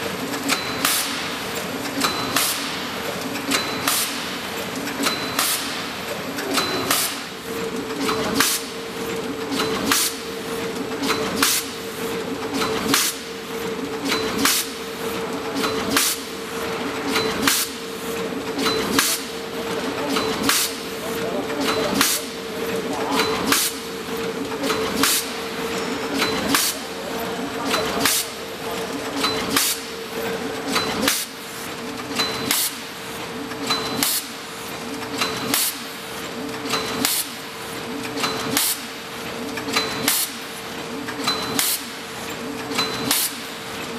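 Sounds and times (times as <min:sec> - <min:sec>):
packaging machine hum: 0:00.0 - 0:43.9.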